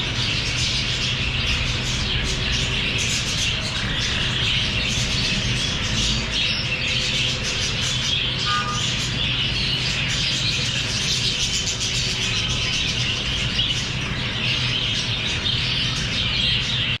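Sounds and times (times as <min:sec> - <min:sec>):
lovebirds chattering and squawking: 0:00.0 - 0:17.0
steady low hum: 0:00.0 - 0:17.0.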